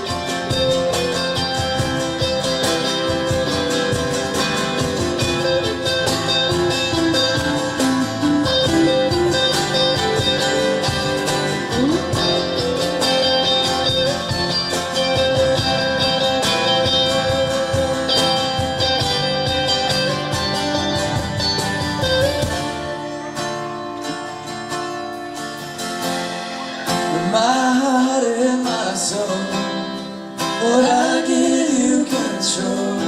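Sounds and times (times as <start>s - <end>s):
band playing worship music: 0.0s - 33.0s.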